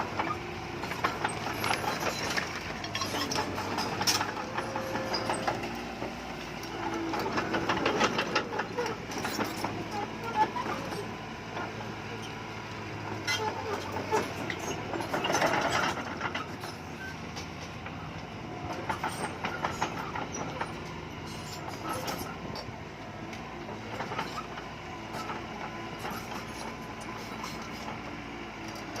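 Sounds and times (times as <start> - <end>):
bulldozer engine running: 0.0 - 29.0.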